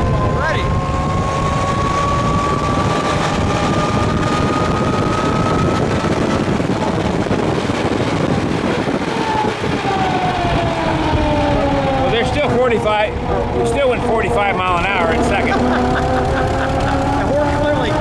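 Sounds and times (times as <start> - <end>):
car engine running: 0.0 - 18.0
thin rising whine: 0.0 - 18.0.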